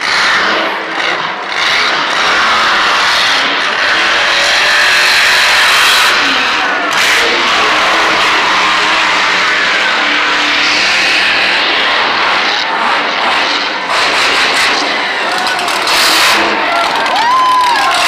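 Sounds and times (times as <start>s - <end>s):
monster truck engine running: 0.0s - 18.0s.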